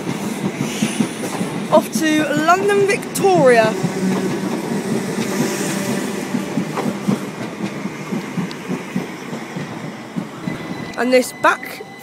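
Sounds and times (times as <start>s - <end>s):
train wheels clicking over rail joints: 0.0s - 11.3s
train electric hum: 0.0s - 12.0s.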